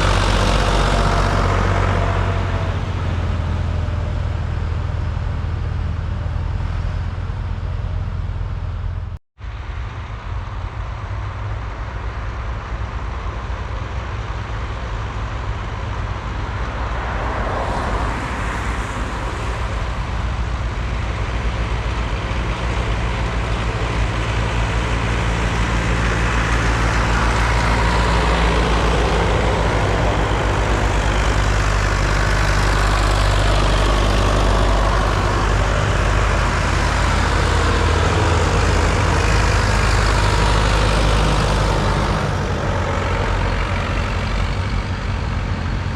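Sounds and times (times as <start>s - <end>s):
tractor engines running: 0.0s - 45.9s.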